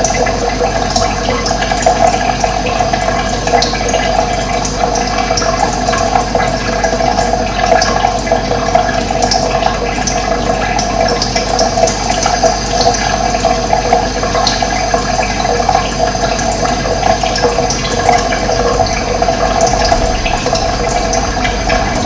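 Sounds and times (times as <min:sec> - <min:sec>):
running water: 0:00.0 - 0:22.0.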